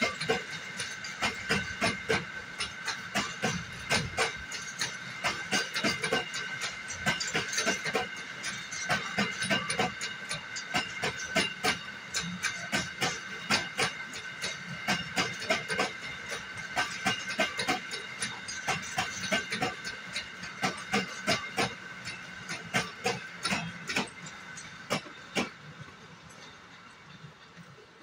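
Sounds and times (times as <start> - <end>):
train wheels clacking over rail joints: 0.0 - 28.0.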